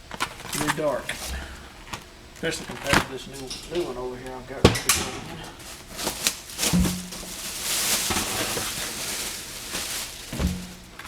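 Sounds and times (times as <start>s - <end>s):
filter rustling and scraping: 0.0s - 11.0s.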